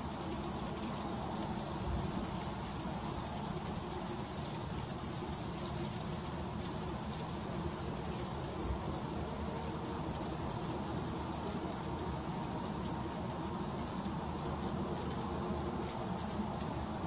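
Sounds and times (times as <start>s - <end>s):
freezing rain hiss and patter: 0.0s - 17.0s.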